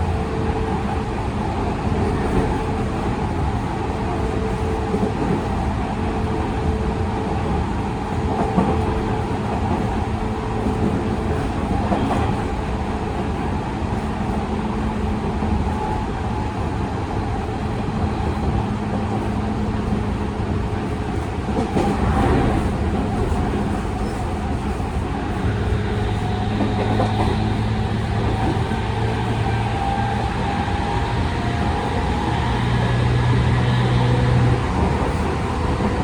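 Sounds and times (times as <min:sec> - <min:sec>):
train rattling: 0:00.0 - 0:36.0
train wheels rumbling on rail: 0:00.0 - 0:36.0.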